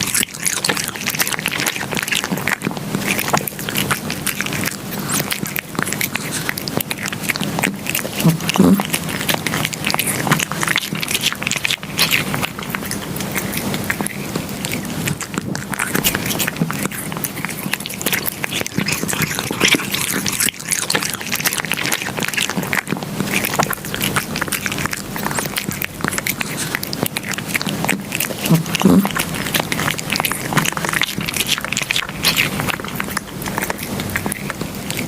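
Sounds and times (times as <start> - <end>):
cat chewing and crunching: 0.0 - 35.0.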